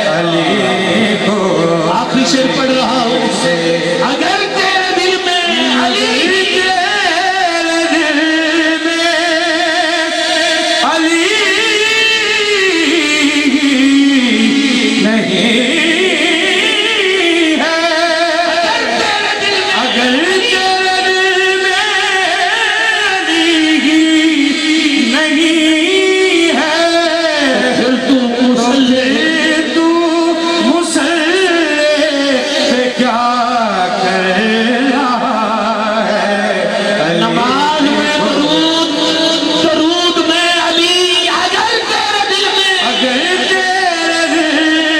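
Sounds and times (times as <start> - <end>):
man singing: 0.0 - 44.9.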